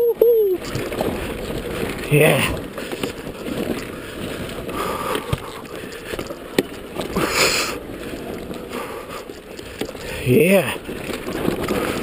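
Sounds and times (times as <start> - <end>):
bike rattling over stones: 0.0 - 12.0
dirt bike rumbling: 0.0 - 12.0.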